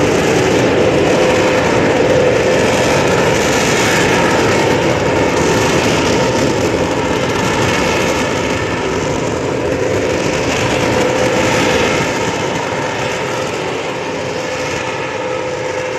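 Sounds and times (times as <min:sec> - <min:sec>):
blast furnace rushing noise: 0:00.0 - 0:15.9.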